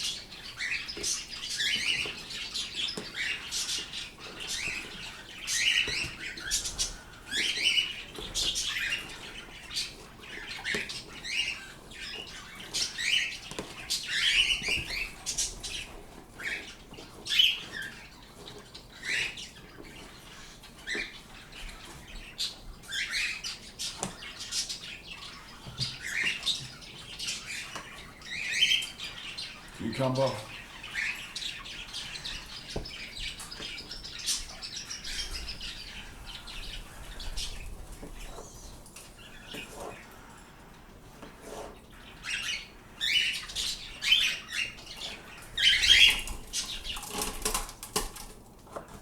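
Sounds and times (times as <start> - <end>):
pet birds chirping and squawking: 0.0 - 49.0.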